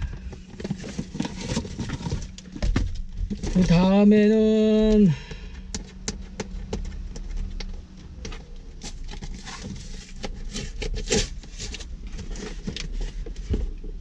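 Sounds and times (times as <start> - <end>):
cardboard box being handled: 0.0 - 3.9, 5.9 - 14.0.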